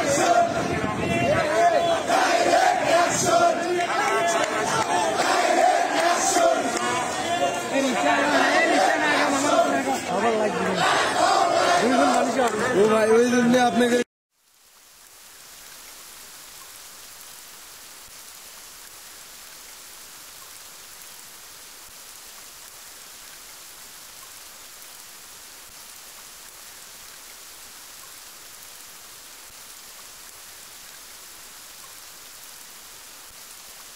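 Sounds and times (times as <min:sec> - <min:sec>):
steady rain hiss: 0:00.0 - 0:33.9.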